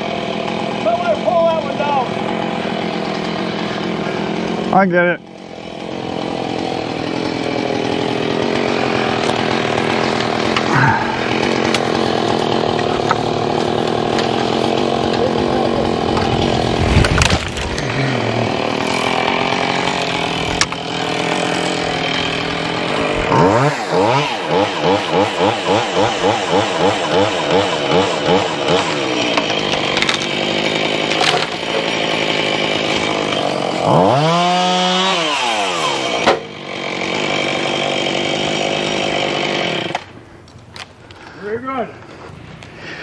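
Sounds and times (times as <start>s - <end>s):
chainsaw engine revving: 0.0s - 40.2s
chainsaw cutting: 0.0s - 43.0s.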